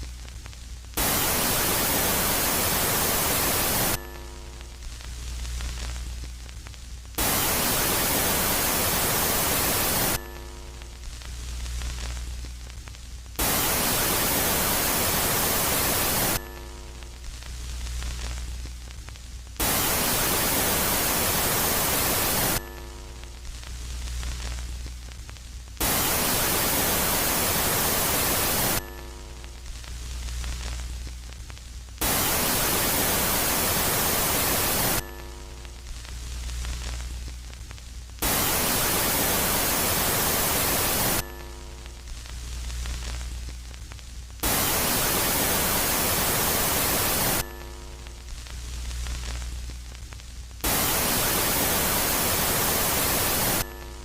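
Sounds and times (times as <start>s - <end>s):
static-like hiss: 0.0s - 54.0s.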